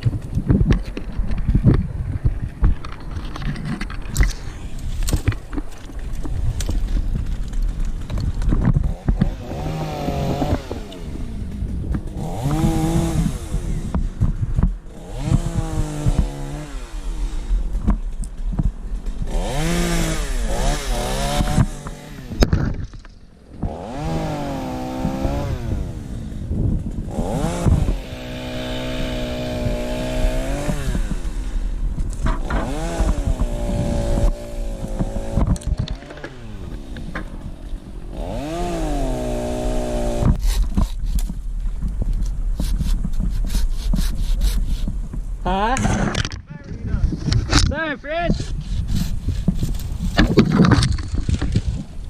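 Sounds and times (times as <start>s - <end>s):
chainsaw cutting wood: 3.7s - 46.3s, 48.4s - 52.0s.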